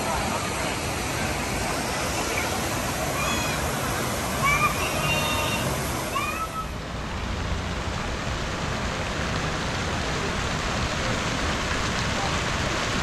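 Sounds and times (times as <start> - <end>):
flowing water rushing and splashing: 0.0 - 13.0.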